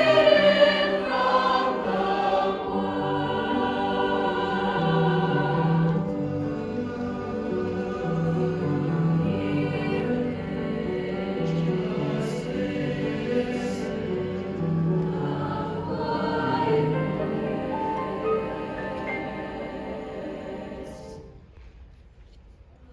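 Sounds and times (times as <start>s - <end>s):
choir singing harmonies: 0.0s - 21.6s.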